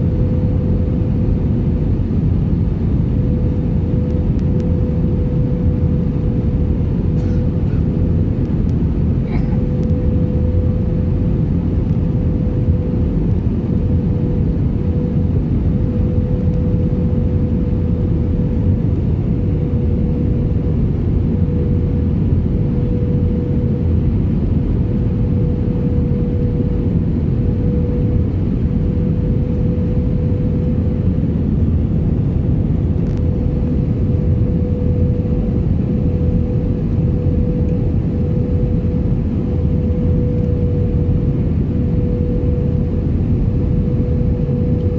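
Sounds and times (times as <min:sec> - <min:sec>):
airliner cabin engine drone: 0:00.0 - 0:44.9
constant hum tone: 0:00.0 - 0:44.9.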